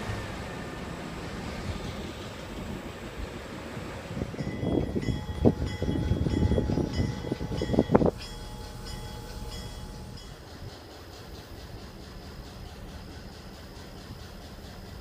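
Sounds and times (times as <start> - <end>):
low train rumble: 0.0 - 15.0
train wheels clacking on track: 0.0 - 15.0.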